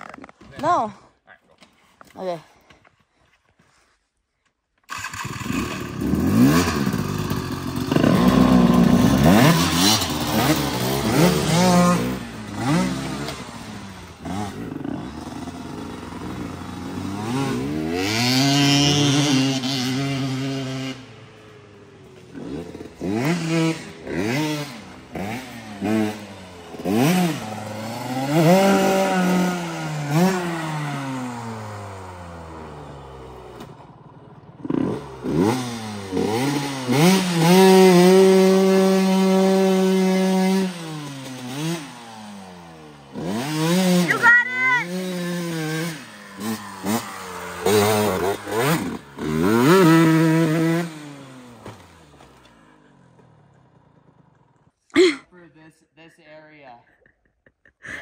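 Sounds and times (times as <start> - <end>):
dirt bike engine revving: 4.9 - 55.2.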